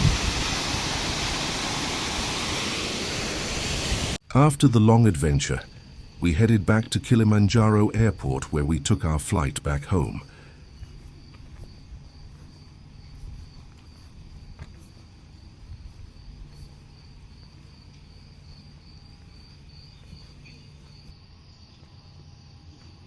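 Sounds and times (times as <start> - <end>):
crickets trilling: 4.3 - 23.0.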